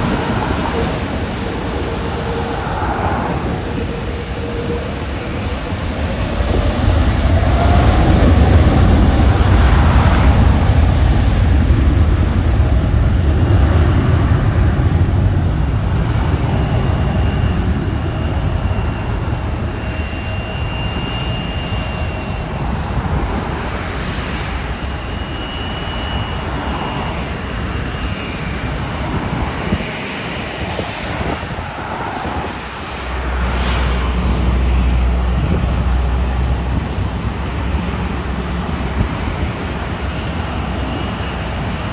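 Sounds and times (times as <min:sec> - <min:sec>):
jet airliner engine rumble: 0:00.0 - 0:41.9.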